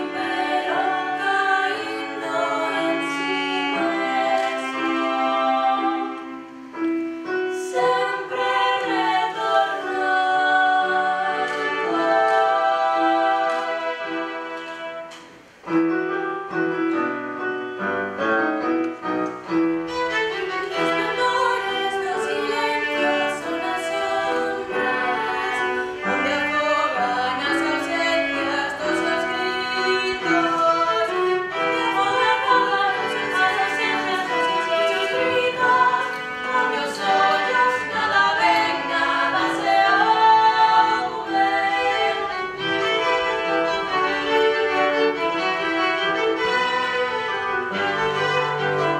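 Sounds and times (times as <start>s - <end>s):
violin and cello: 0.0s - 15.2s, 19.4s - 48.9s
person singing classical song: 0.0s - 17.8s, 18.8s - 48.9s.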